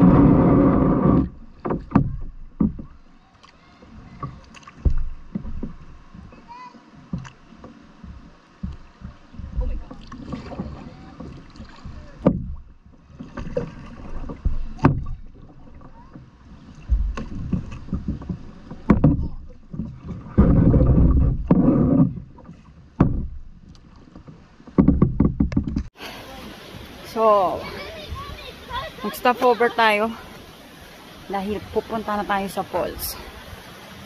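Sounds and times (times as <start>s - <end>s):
paddle blades splashing: 0.0s - 34.0s
water sloshing against kayak hull: 0.0s - 34.0s.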